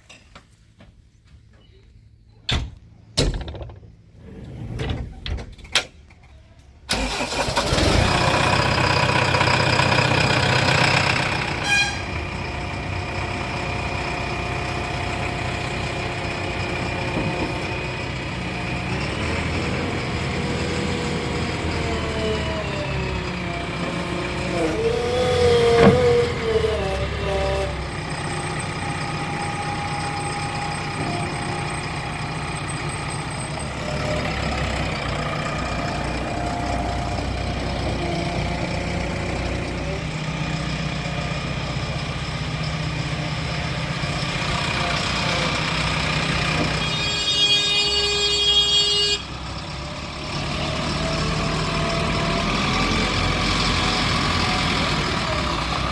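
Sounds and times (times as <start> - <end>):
heavy diesel machinery running: 6.9 - 55.9.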